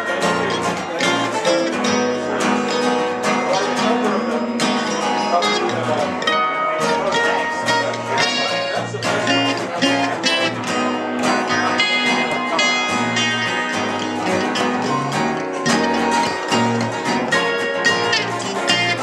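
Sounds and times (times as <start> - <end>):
acoustic guitar: 0.0 - 19.0
dobro playing: 0.0 - 19.0.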